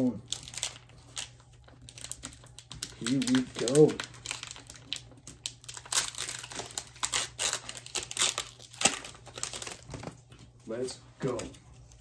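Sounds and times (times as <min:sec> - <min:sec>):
foil pack tearing and crackling: 0:00.2 - 0:10.2.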